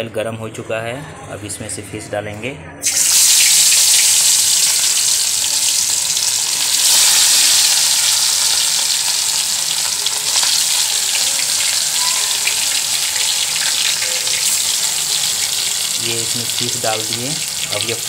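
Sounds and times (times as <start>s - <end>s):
fish sizzling in hot oil: 2.8s - 18.0s.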